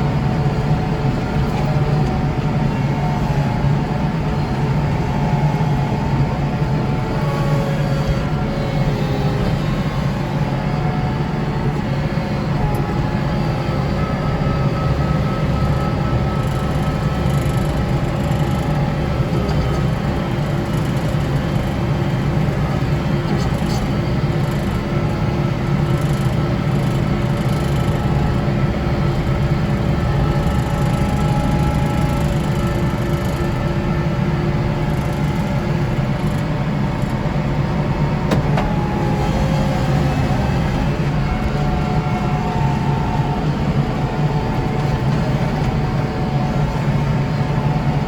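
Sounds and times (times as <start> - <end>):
faint whining tones: 0.0 - 48.0
tractor engine droning: 0.0 - 48.0.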